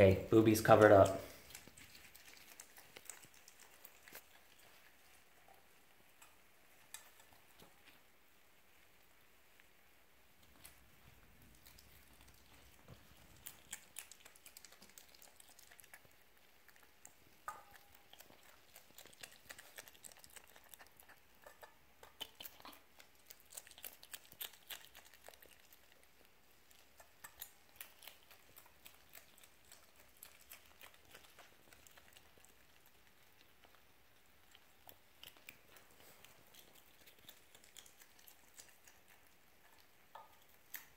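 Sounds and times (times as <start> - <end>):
fox chewing and crunching: 0.1 - 40.9.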